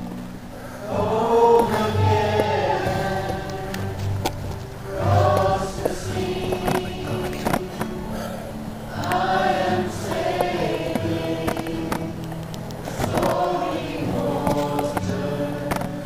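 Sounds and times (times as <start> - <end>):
choir singing sustained notes: 0.0 - 16.0.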